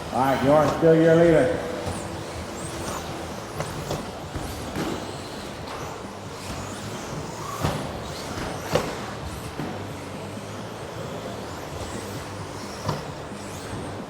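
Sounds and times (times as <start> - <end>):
rc truck motor whine: 0.0 - 14.0.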